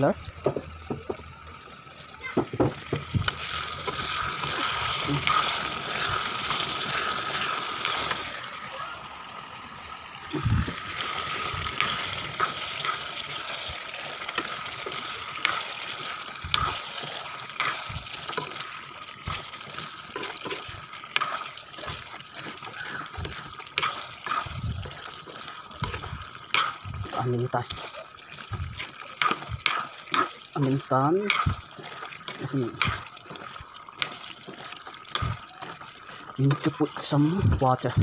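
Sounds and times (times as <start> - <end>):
curry bubbling and sizzling: 0.0 - 38.0
spoon scraping and knocking pan: 0.4 - 1.2, 2.4 - 8.3, 10.9 - 38.0.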